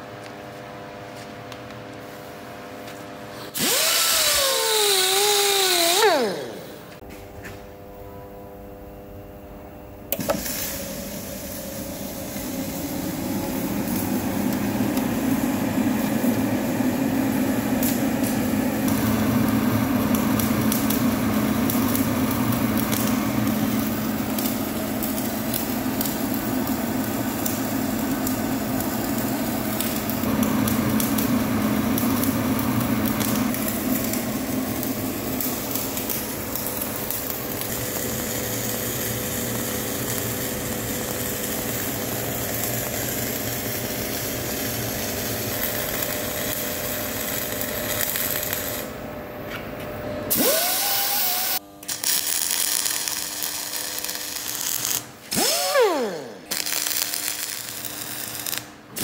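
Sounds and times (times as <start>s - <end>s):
continuous hum: 0.0s - 59.0s
welding arc crackling: 3.6s - 6.9s, 10.1s - 49.0s, 50.3s - 59.0s.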